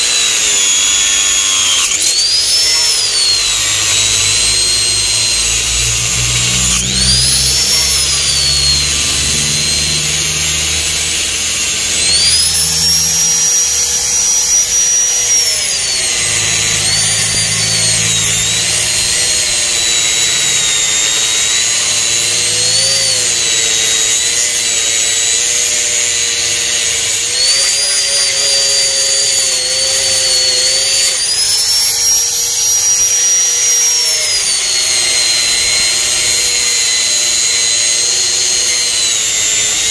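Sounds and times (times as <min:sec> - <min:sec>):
angle grinder cutting fiberglass: 0:00.0 - 0:39.9.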